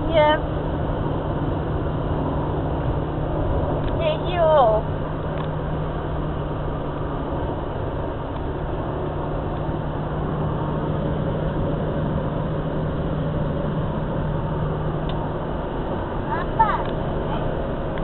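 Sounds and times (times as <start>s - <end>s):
car road noise inside cabin: 0.0s - 18.0s
low engine drone: 0.0s - 18.0s.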